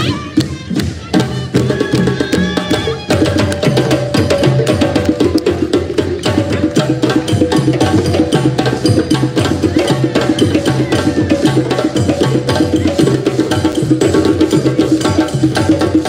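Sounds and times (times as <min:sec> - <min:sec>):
djembes played by hand: 0:00.0 - 0:16.0.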